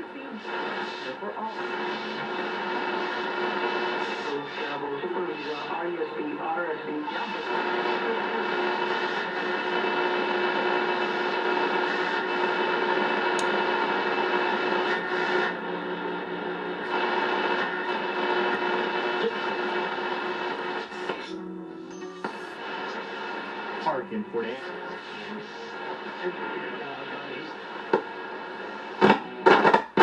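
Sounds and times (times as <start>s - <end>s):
radio receiver sustained tones: 0.0s - 29.8s.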